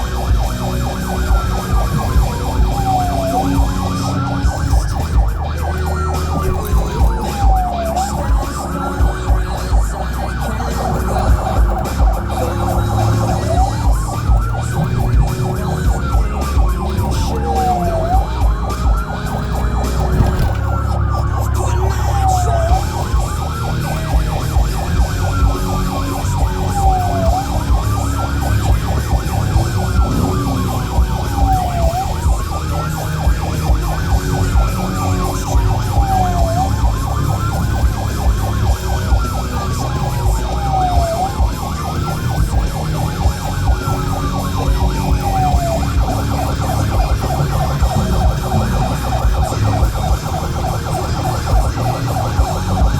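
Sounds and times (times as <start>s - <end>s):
low vehicle rumble: 0.0s - 52.9s
police siren wailing: 0.0s - 52.9s.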